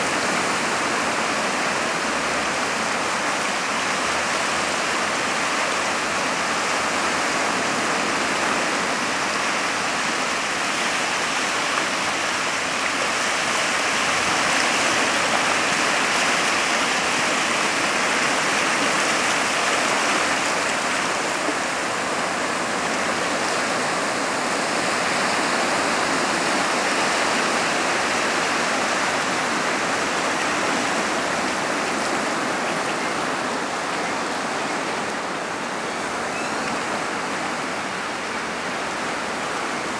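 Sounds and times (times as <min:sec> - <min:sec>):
small waves on rocky shore: 0:00.0 - 0:39.9.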